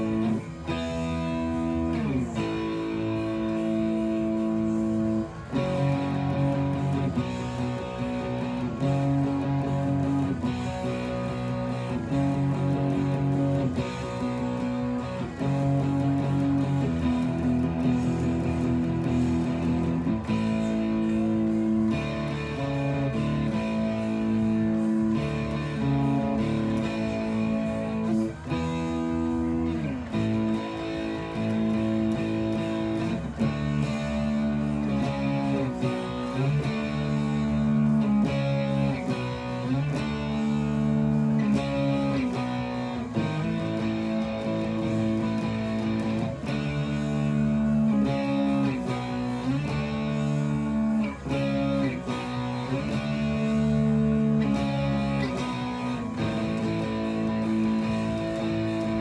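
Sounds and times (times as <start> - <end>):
distorted electric guitar chords: 0.0 - 59.0.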